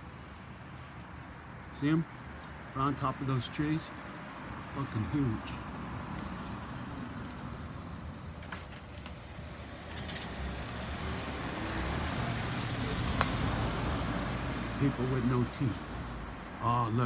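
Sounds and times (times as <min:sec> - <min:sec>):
street noise: 0:00.0 - 0:17.0
vehicle engine and tyres: 0:00.0 - 0:17.0.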